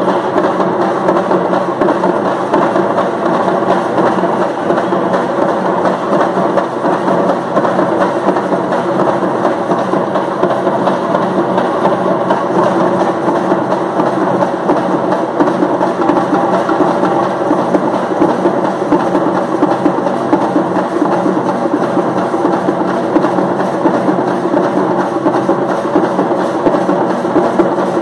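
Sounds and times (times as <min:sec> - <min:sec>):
frame drums beaten fast: 0:00.0 - 0:28.0.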